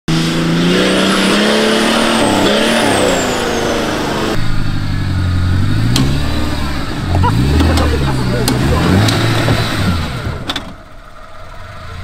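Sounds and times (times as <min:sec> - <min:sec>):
engine revving under load: 0:00.1 - 0:12.0
engine running at low revs: 0:00.1 - 0:12.0
tyre and road noise: 0:00.1 - 0:12.0.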